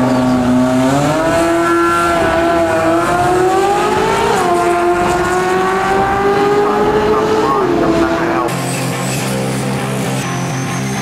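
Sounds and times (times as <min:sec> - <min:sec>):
engine at full throttle: 0:00.0 - 0:11.0.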